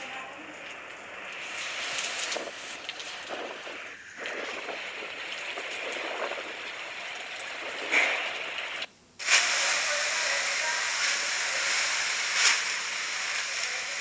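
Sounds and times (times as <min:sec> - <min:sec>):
heavy rain and wind: 0:00.0 - 0:14.0.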